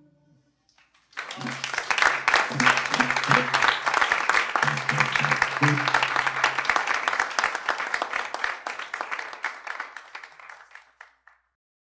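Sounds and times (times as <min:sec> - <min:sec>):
audience applauding: 0:00.8 - 0:11.4.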